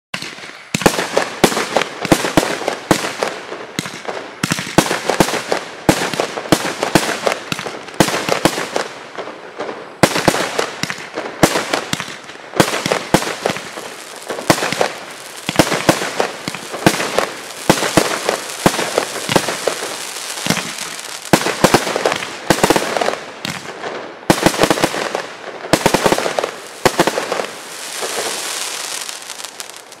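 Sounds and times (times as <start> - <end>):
firework bangs: 0.2 - 30.0
firework crackling: 0.2 - 30.0.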